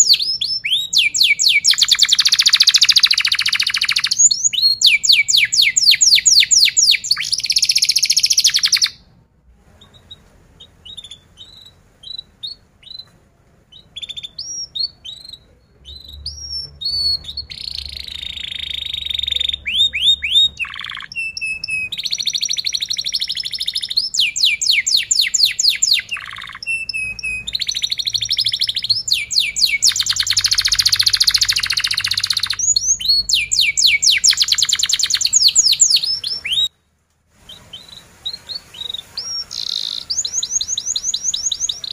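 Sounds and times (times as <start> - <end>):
canary singing trills: 0.0 - 9.1, 9.8 - 13.1, 13.7 - 36.7, 37.4 - 41.9.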